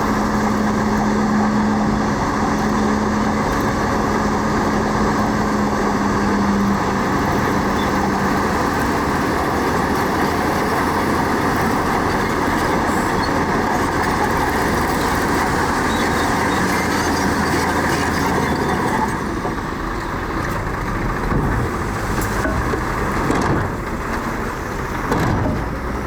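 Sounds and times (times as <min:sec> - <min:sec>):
heavy machinery diesel engines: 0:00.0 - 0:26.0.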